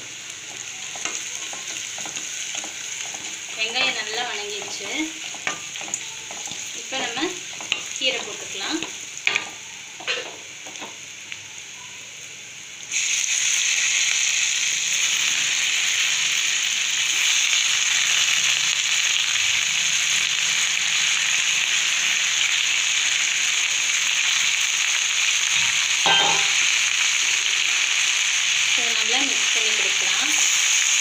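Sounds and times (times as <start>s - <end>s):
oil sizzling in a pan: 0.0s - 31.0s.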